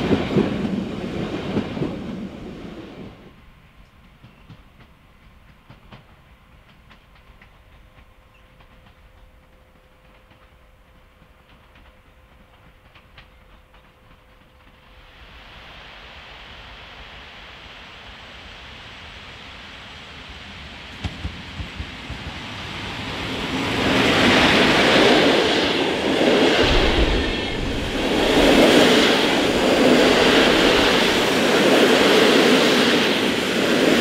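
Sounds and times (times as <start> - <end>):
train rushing noise: 0.0 - 9.2, 10.0 - 34.0.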